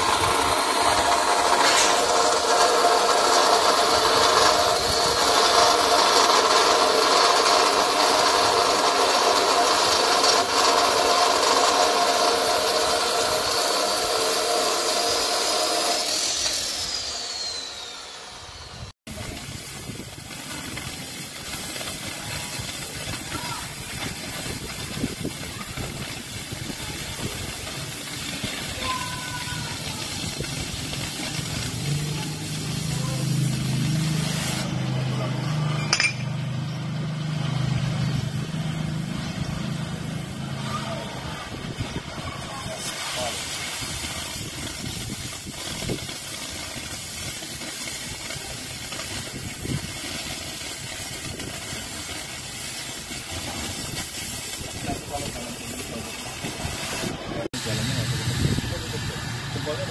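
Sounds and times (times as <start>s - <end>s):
crackling molten metal: 0.0s - 17.9s, 19.1s - 59.9s
cutting torch hissing: 0.0s - 36.2s, 36.8s - 59.9s.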